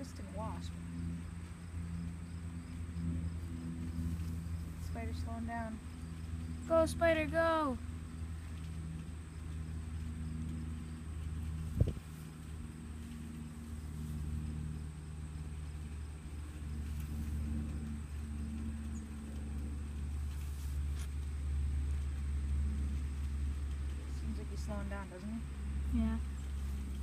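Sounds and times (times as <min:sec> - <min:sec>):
engine rumbling: 0:00.0 - 0:27.0.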